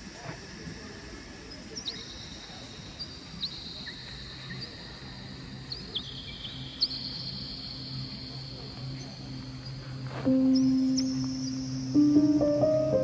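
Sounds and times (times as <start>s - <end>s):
faint low hum: 0.0s - 13.0s
steady high-pitched trill: 0.0s - 13.0s
small birds chirping: 1.2s - 13.0s.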